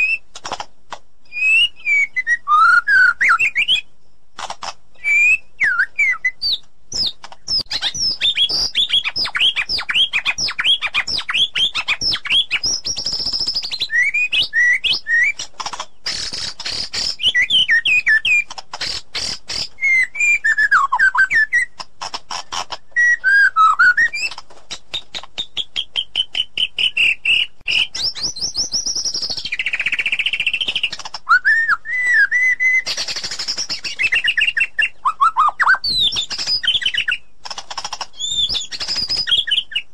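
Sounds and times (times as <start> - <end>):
bird singing: 0.0 - 0.3, 1.2 - 4.0, 4.9 - 21.8, 22.4 - 37.3, 38.1 - 39.9.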